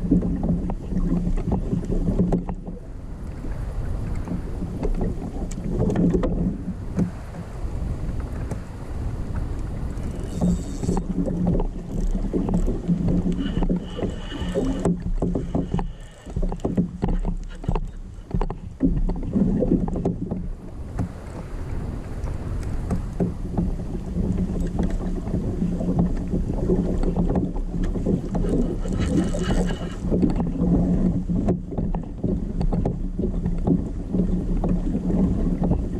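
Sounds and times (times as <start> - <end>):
paddle knocking and splashing water: 0.0 - 35.9
wind on microphone: 0.0 - 35.9.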